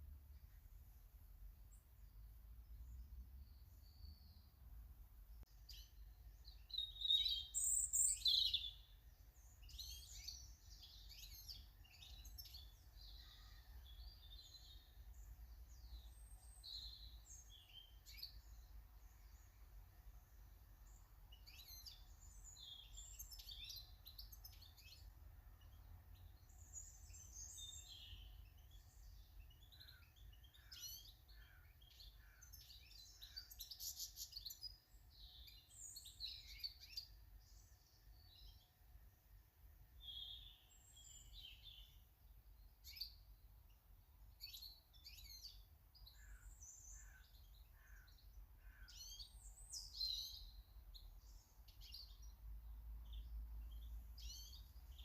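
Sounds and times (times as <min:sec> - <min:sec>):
small birds chirping and singing: 0:00.0 - 0:55.0.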